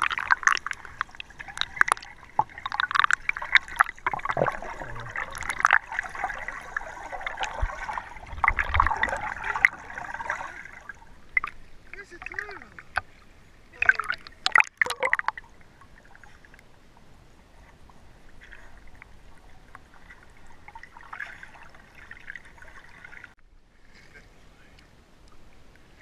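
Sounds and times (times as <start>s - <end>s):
water splashing: 0.0s - 16.6s, 17.7s - 23.4s
water gurgling and lapping: 0.0s - 24.6s.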